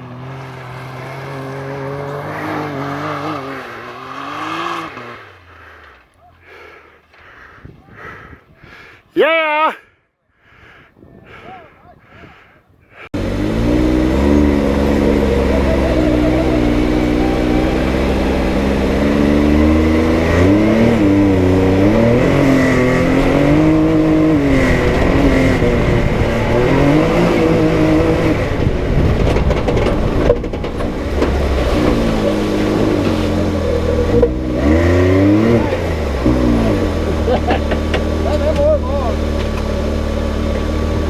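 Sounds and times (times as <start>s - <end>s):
engine revving under load: 0.0s - 8.4s, 13.0s - 41.0s.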